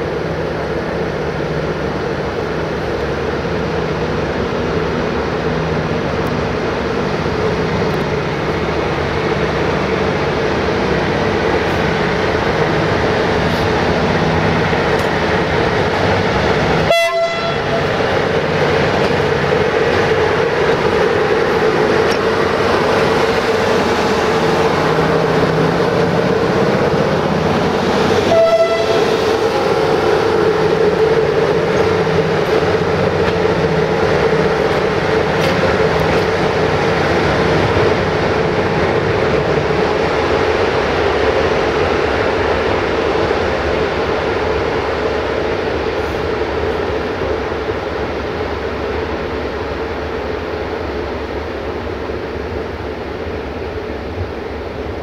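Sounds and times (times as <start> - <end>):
electric locomotive hum: 0.0 - 55.0.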